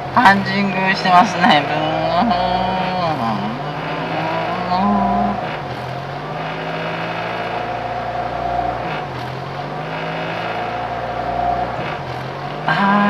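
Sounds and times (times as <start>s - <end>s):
car engine idling unevenly: 0.0s - 13.0s.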